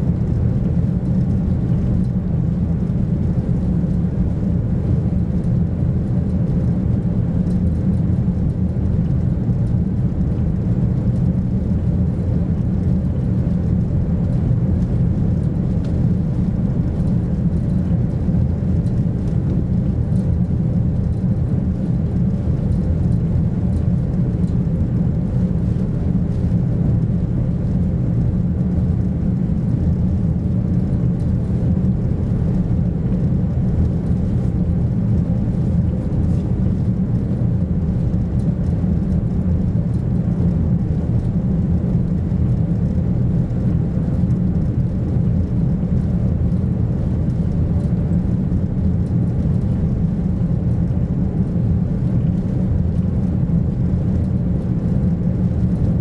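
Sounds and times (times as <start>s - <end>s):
boat engine rumble and whir: 0.0s - 56.0s.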